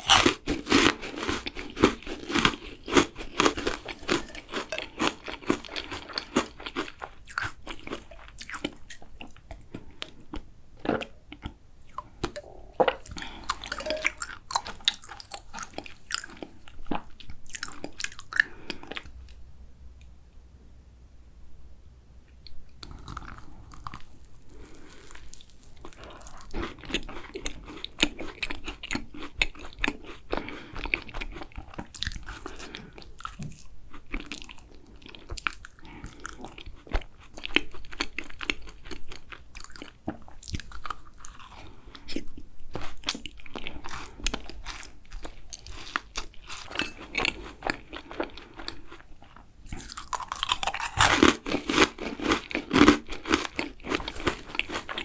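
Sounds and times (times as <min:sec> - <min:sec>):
crisp food crunching: 0:00.0 - 0:19.1, 0:22.8 - 0:55.0.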